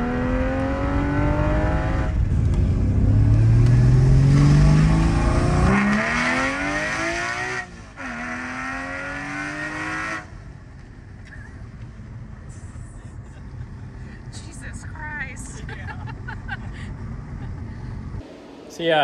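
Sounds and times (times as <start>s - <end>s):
sports car engine accelerating: 0.0s - 19.0s.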